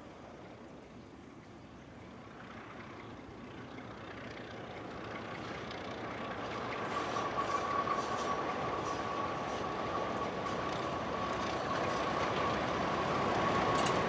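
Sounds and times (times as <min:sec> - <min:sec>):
diesel locomotive engines: 0:00.0 - 0:14.0
steady high whine: 0:02.0 - 0:14.0.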